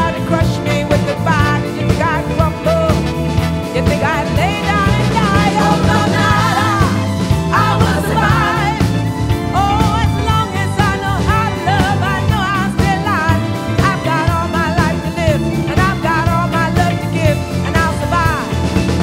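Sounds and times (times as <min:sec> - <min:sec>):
rock music with singing: 0:00.0 - 0:19.0.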